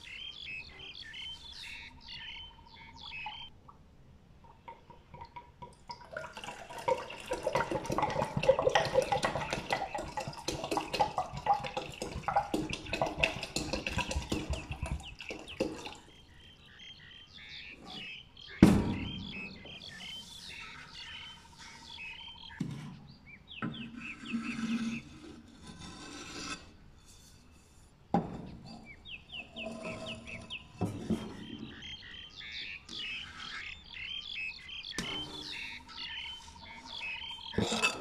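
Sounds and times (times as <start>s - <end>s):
small birds chirping: 0.0s - 25.2s, 28.5s - 38.0s.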